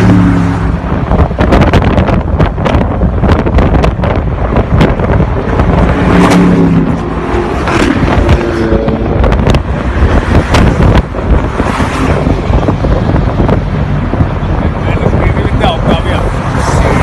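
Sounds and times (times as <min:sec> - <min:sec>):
road traffic: 0:00.0 - 0:17.0
wind buffeting microphone: 0:00.0 - 0:17.0.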